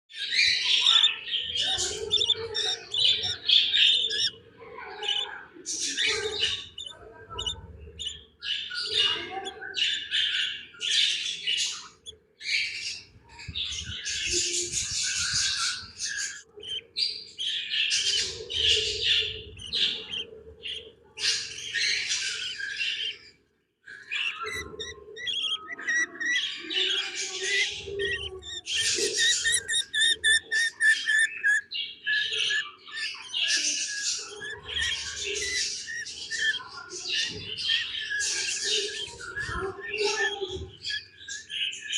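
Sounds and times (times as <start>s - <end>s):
budgie chicks chirping and squawking: 0.1s - 41.9s.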